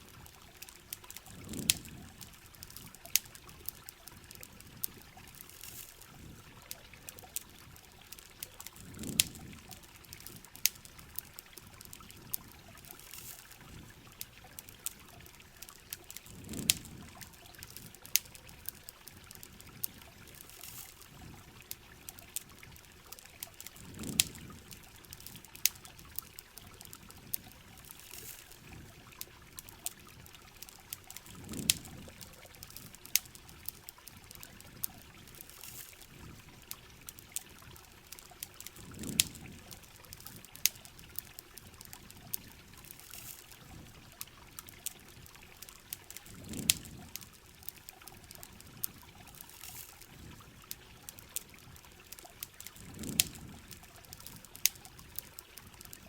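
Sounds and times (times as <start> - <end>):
campfire crackling and popping: 0.0 - 56.0
heavy rain on a shell: 0.0 - 56.0.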